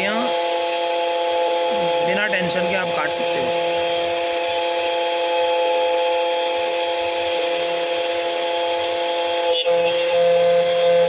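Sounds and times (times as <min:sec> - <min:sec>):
key cutter spindle whine: 0:00.0 - 0:11.0.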